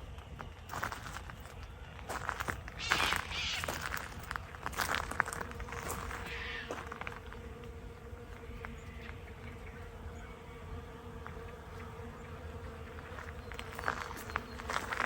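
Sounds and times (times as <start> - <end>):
bees buzzing: 1.9 - 15.0.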